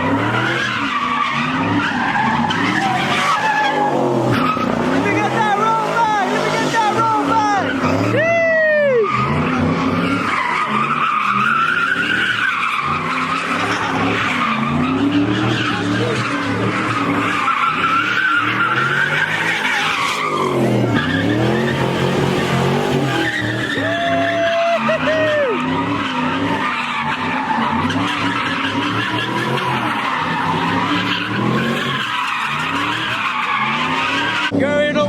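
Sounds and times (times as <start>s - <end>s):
tyres squealing: 0.0s - 34.7s
car engine revving: 0.0s - 35.0s.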